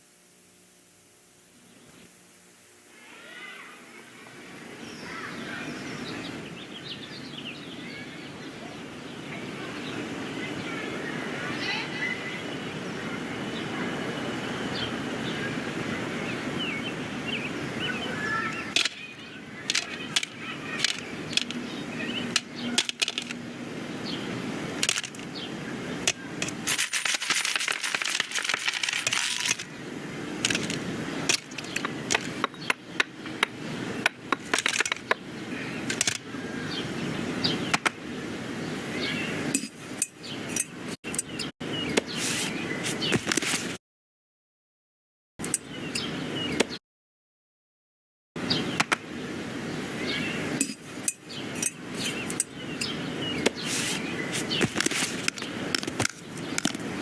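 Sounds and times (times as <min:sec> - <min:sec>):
steady background noise: 0:00.0 - 0:43.8, 0:48.4 - 0:57.0.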